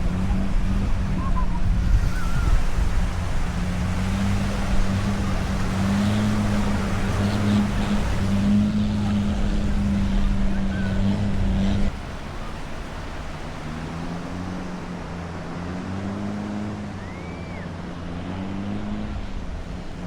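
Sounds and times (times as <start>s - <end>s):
engine droning: 0.0s - 20.0s
surf washing: 0.0s - 20.0s.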